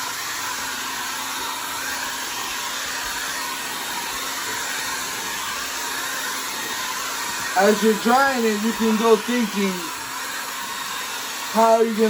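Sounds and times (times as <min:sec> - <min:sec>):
blow dryer air rush: 0:00.0 - 0:12.0.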